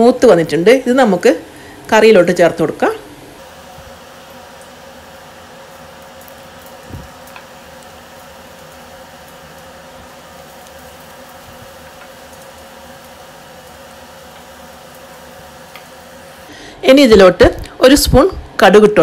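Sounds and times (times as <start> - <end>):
oil sizzling and foaming: 1.0 - 16.5.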